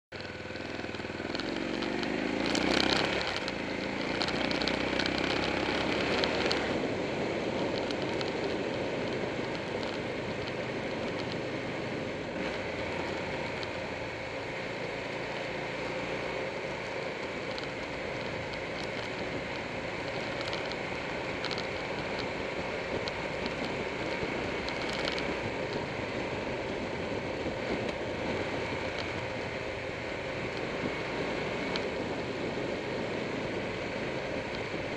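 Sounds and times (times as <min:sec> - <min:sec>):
motorcycle engine accelerating: 0:00.1 - 0:34.9
wind and road noise: 0:00.1 - 0:34.9.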